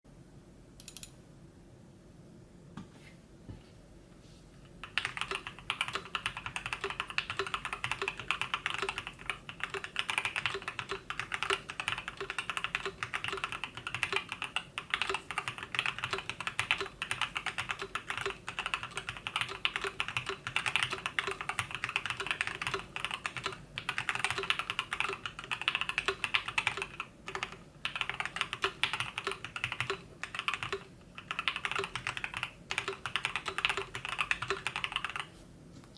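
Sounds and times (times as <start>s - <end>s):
typing on mechanical keyboard: 4.8s - 35.3s.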